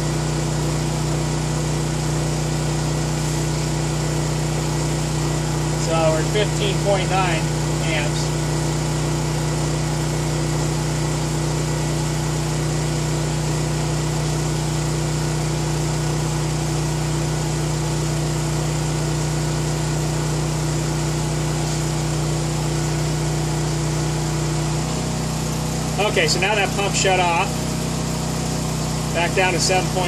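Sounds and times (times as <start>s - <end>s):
portable generator running: 0.0s - 30.0s.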